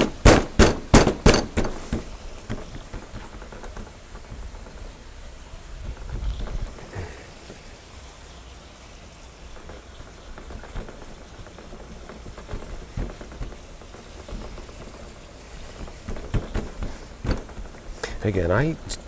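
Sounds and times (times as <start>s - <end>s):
faint outdoor background: 0.0s - 19.0s.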